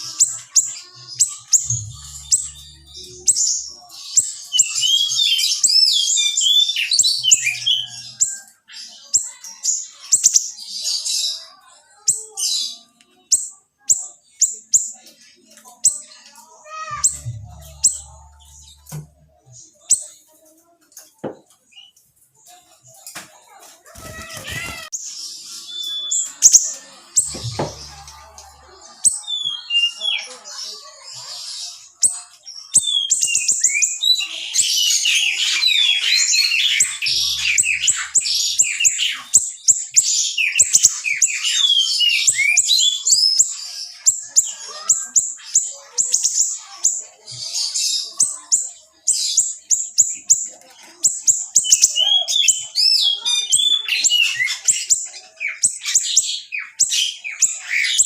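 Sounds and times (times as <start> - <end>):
songbird chirping and trilling: 0.0 - 58.0.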